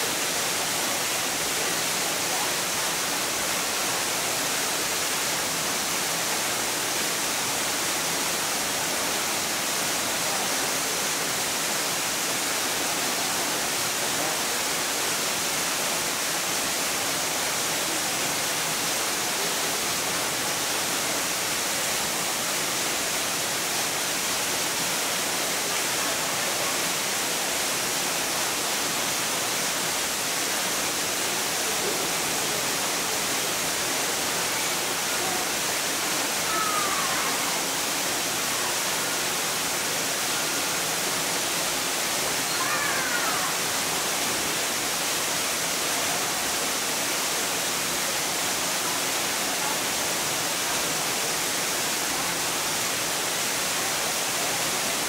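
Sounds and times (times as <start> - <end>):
falling water hiss: 0.0 - 55.0.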